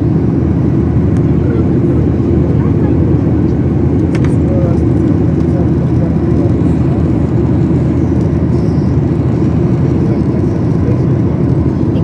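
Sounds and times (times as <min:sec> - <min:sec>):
jet engine rumble in cabin: 0:00.0 - 0:12.0.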